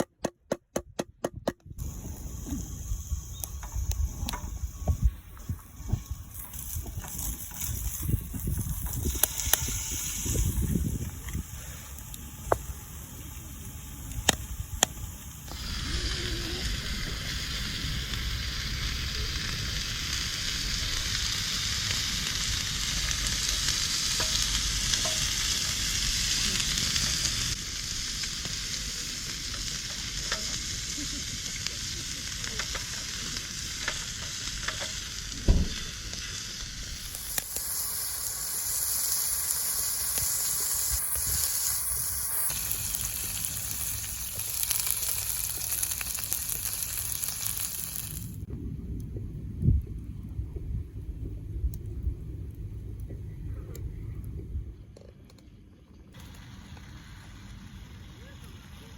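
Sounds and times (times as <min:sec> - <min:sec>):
meat sizzling on grill plate: 0:01.8 - 0:48.5, 0:56.2 - 0:58.9.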